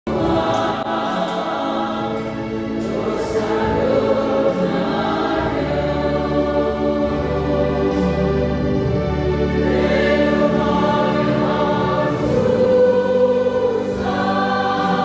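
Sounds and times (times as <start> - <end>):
church choir singing: 0.1 - 15.0.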